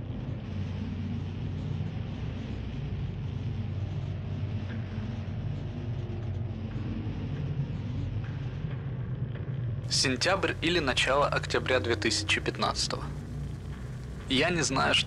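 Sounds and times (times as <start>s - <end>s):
low rumble drone: 0.0s - 15.0s.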